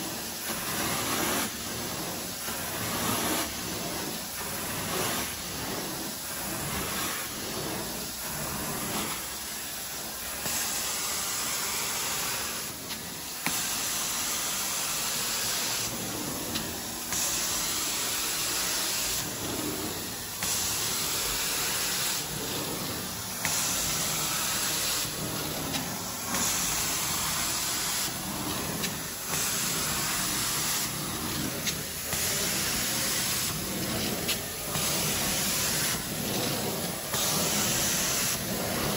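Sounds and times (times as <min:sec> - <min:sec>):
carpet extraction wand hissing: 0:00.1 - 0:38.9.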